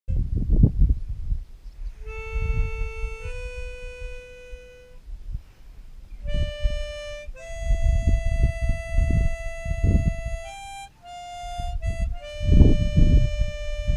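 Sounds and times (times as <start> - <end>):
low rumbling noise: 0.1 - 13.9
harmonica slow melody: 1.9 - 13.9.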